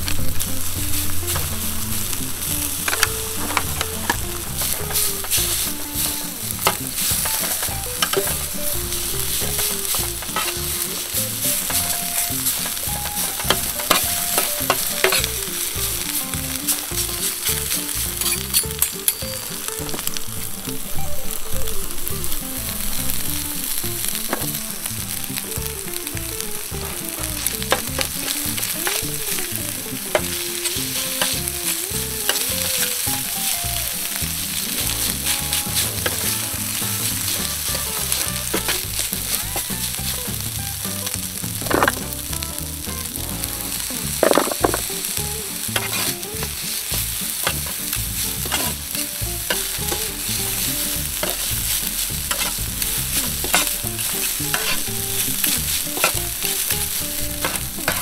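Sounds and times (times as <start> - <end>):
food sizzling on a griddle: 0.0 - 58.0
metal utensils scraping a griddle: 0.1 - 20.8, 27.2 - 42.3, 42.9 - 58.0.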